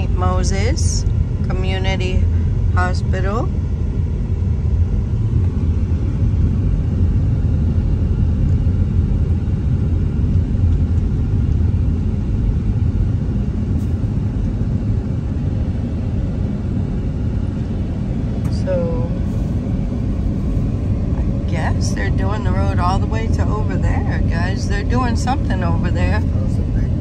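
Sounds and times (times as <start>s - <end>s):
car cabin engine and tyre rumble: 0.0s - 27.0s.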